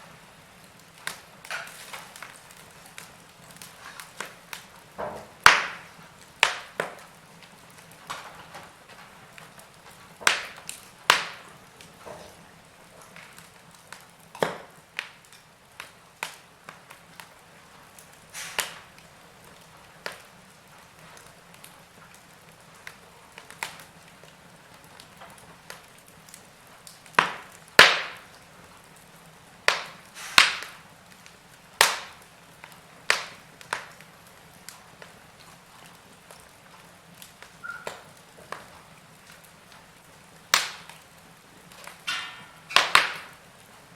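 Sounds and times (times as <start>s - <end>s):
faint steady hiss: 0.0s - 43.9s
wood fire crackling: 0.0s - 43.9s.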